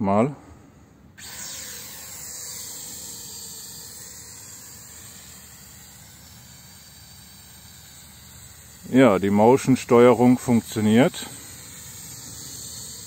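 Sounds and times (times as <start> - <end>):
toy quadcopter whining: 1.2 - 13.0.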